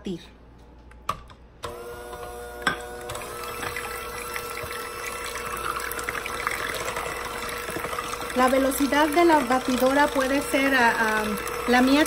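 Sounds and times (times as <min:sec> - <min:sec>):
electric hand mixer running: 0:01.7 - 0:12.0.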